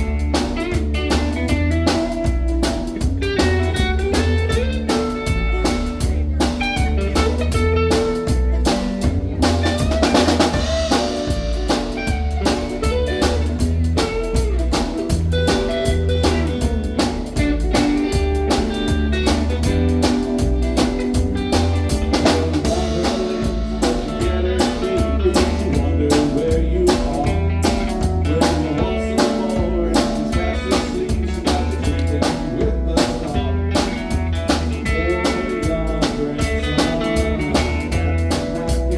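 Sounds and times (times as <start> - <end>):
drum kit beat: 0.0 - 38.9
electric guitar: 0.0 - 38.9.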